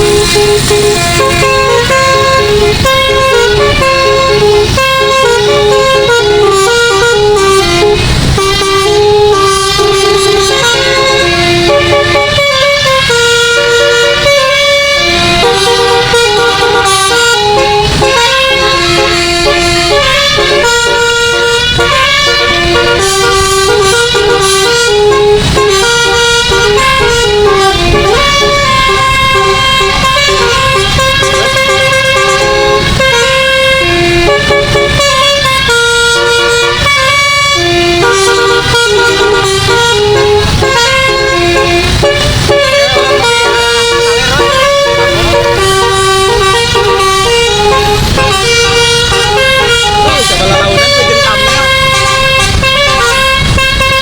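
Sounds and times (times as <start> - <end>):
bus musical air horn playing a tune: 0.0 - 54.0.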